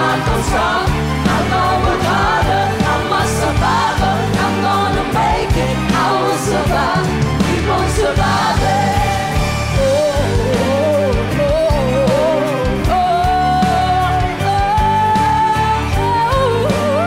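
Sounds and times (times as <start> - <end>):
backing track with heavy beat: 0.0 - 17.0
women singing pop song: 0.0 - 17.0.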